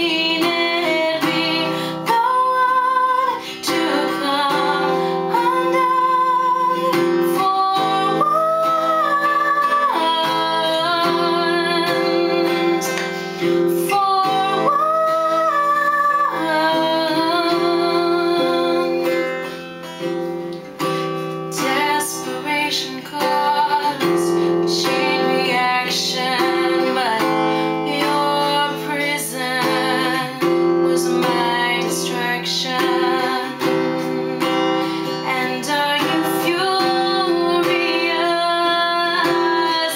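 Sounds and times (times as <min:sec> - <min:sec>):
acoustic guitar strumming: 0:00.0 - 0:39.9
woman singing: 0:00.0 - 0:39.9.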